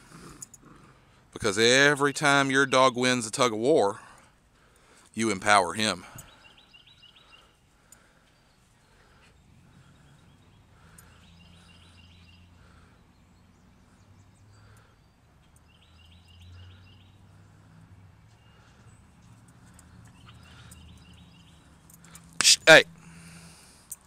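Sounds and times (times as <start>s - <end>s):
songbird chirping: 0.4s - 24.0s.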